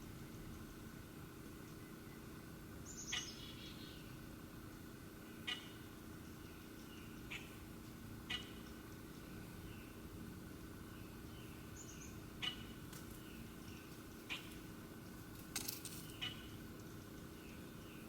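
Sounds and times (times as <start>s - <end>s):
birds chirping: 1.5s - 15.3s, 16.0s - 18.0s.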